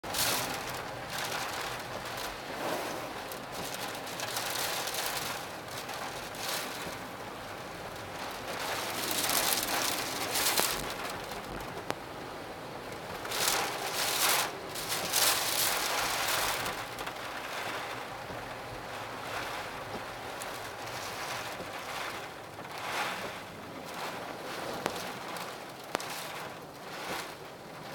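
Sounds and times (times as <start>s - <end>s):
gusting wind and rain: 0.0s - 27.9s.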